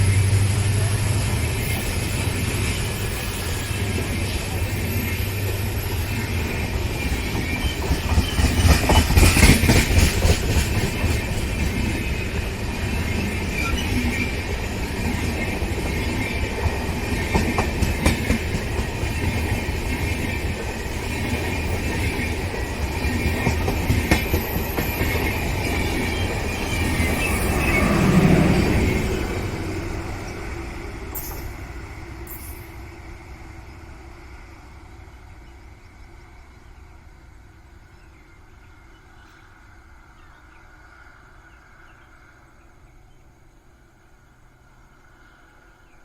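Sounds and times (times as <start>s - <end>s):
train wheels rumbling on rails: 0.0s - 42.7s.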